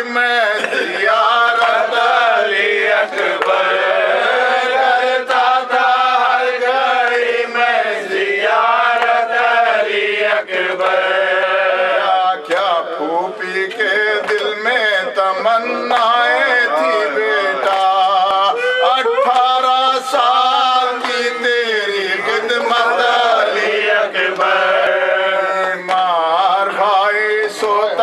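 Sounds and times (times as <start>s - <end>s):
man chanting a mournful lament: 0.0s - 9.8s, 11.2s - 28.0s.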